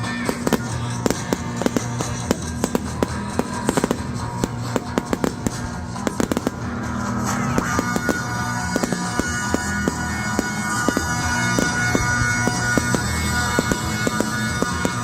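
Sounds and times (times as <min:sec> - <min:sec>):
fireworks bangs and crackles: 0:00.0 - 0:15.0
loud music: 0:00.0 - 0:15.0.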